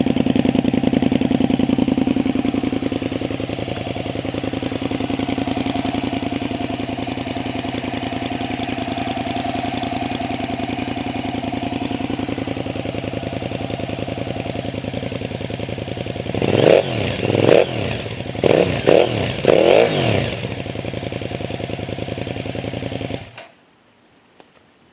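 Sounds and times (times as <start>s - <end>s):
motorcycle engine idling and revving: 0.0s - 23.4s.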